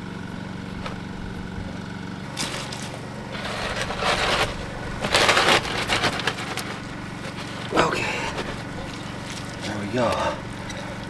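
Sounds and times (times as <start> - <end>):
scraping and crunching: 0.0 - 11.0
small engine running: 0.0 - 11.0.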